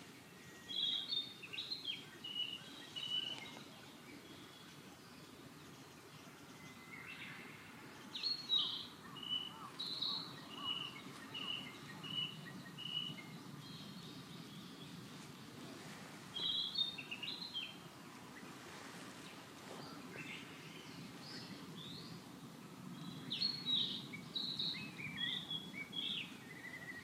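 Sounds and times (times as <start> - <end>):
outdoor background noise: 0.0 - 27.0
songbird chirping: 0.0 - 27.0.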